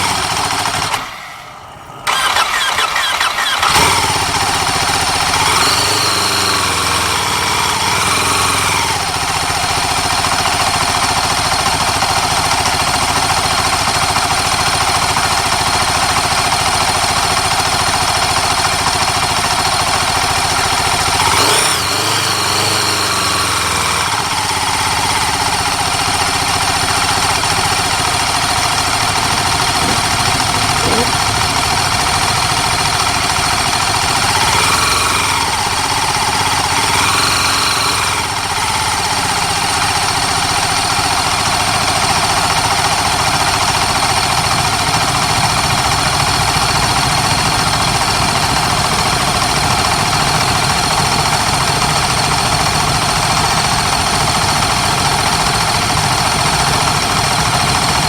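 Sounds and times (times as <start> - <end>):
motorcycle engine revs: 0.0 - 58.0
racing motorcycle engines: 0.0 - 58.0.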